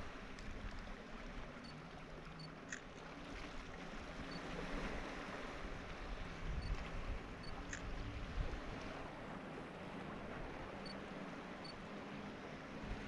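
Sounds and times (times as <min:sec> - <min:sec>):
water lapping around kayak: 0:00.0 - 0:13.0.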